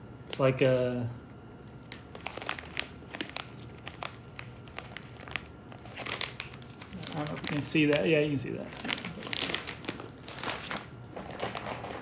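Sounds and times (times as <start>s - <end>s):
plastic snack bag crinkling: 1.6s - 12.0s.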